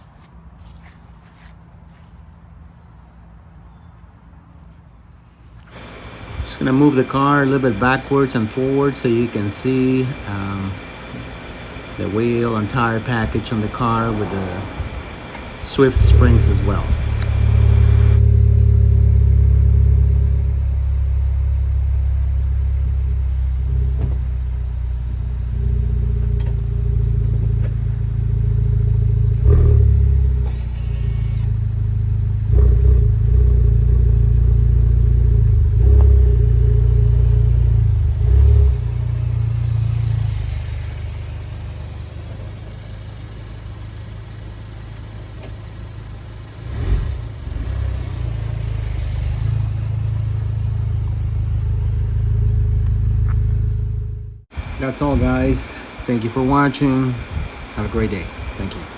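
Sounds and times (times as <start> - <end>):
car engine droning at low revs: 5.6 - 58.9.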